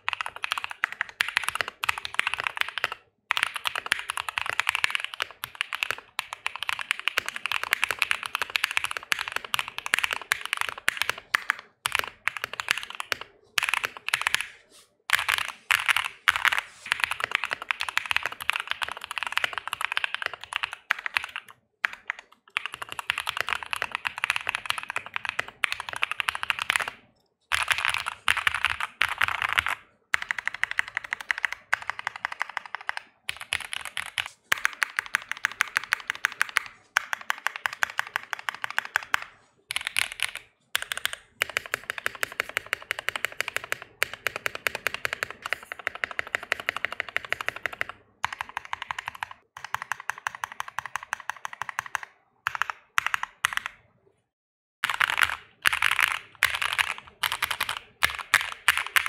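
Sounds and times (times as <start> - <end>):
mechanical keyboard typing: 0.0 - 53.9, 54.8 - 59.0.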